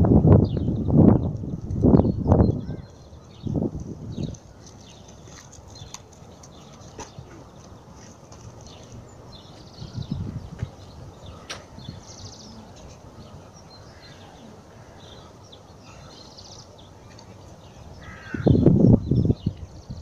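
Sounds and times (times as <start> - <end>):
birds chirping: 0.3 - 20.0.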